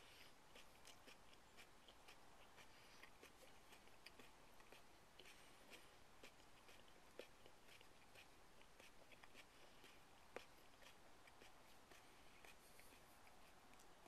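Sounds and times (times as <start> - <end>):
man chewing with mouth clicks: 0.0 - 14.0.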